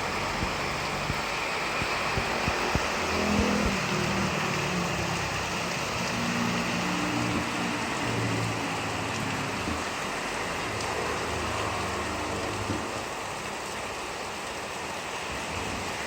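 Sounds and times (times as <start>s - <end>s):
heavy rain falling: 0.0s - 16.0s
sharp drips: 0.0s - 16.0s.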